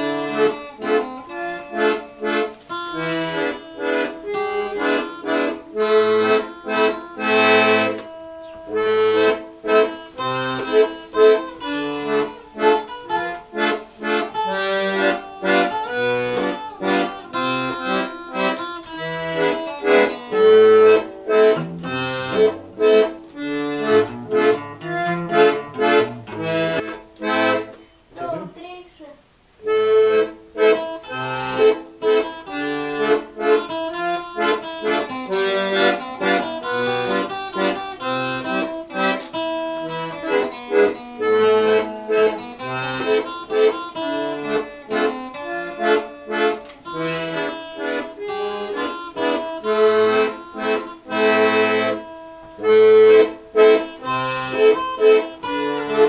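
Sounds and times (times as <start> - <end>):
button accordion melody: 0.0 - 28.4, 29.6 - 56.0.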